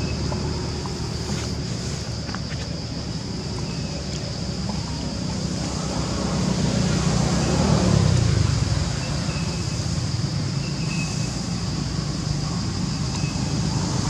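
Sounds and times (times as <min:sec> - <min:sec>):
constant high hiss: 0:00.0 - 0:14.0
outdoor background rumble: 0:00.0 - 0:14.0.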